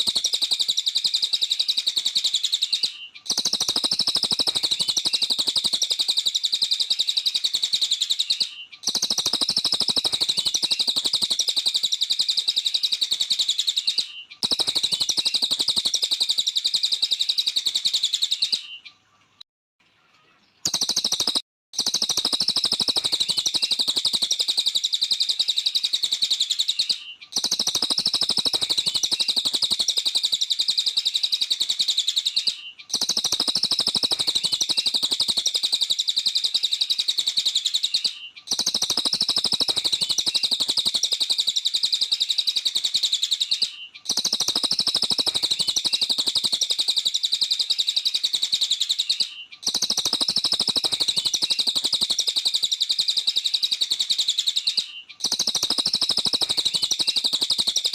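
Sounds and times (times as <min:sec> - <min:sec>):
songbird singing high chirps: 0:00.0 - 0:19.4, 0:20.1 - 0:57.9.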